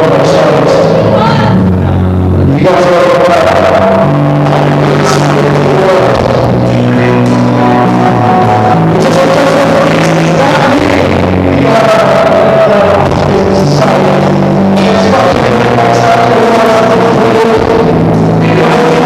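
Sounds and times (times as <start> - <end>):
bass guitar notes: 0.0 - 19.0
drums: 0.0 - 19.0
electric guitar: 0.0 - 19.0.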